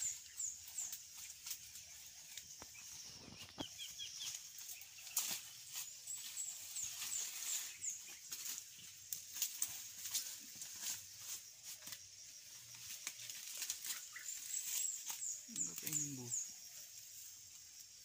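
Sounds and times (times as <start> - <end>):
twigs and leaves rustling: 0.0 - 18.0.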